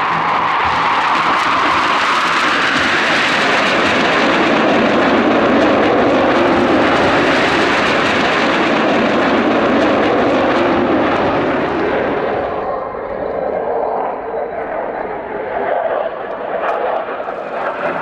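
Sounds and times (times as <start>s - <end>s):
jets flying past: 0.0s - 18.0s.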